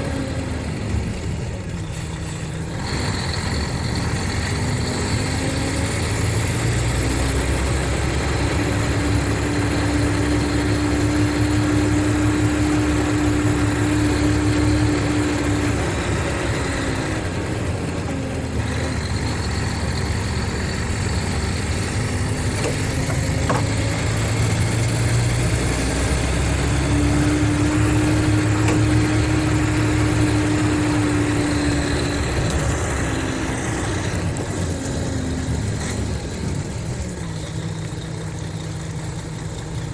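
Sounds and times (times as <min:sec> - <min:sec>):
coach diesel engine running: 0:00.0 - 0:39.9.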